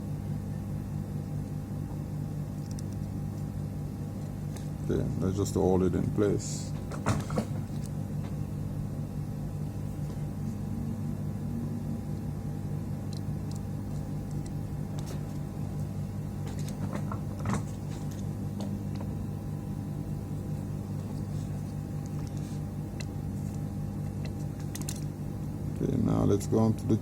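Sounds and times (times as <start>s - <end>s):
low hum of workbench equipment: 0.0s - 27.0s.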